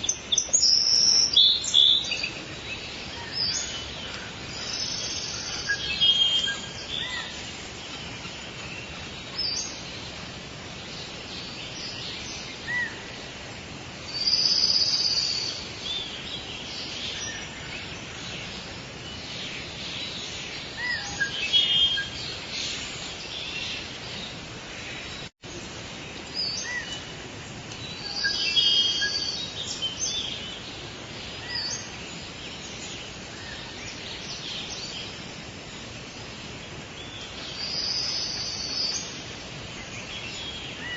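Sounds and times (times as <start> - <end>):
birds calling and chirping: 0.0 - 25.3, 25.9 - 40.9
steady high hiss: 0.0 - 40.9.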